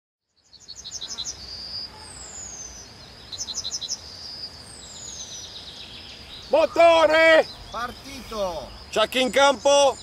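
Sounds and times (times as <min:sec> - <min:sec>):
bird chirping: 0:00.2 - 0:10.0.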